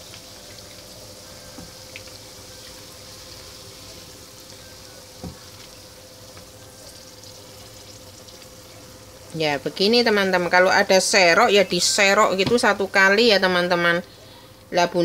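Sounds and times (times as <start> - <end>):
food sizzling in oil: 0.0 - 13.4
faint steady hum: 0.0 - 15.0.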